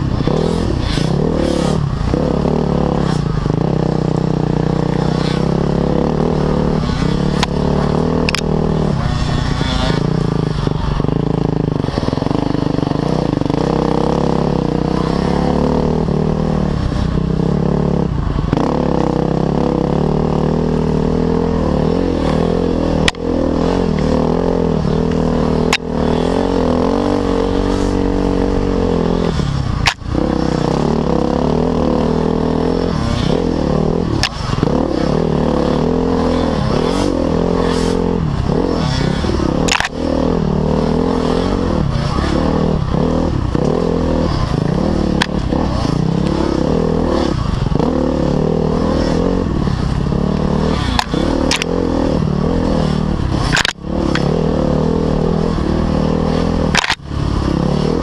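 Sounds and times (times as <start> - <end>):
off-road motorcycle engine: 0.0 - 58.0.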